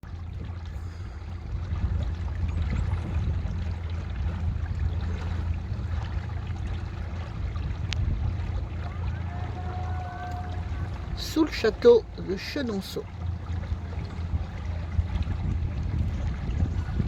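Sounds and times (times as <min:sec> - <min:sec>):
steady low rumble: 0:00.0 - 0:17.0
water splashing and gurgling: 0:00.0 - 0:17.0.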